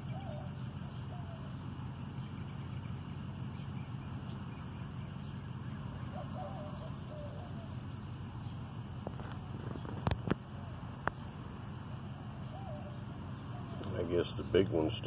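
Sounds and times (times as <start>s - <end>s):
faint wavering calls: 0.0s - 15.0s
low outdoor rumble: 0.0s - 15.0s.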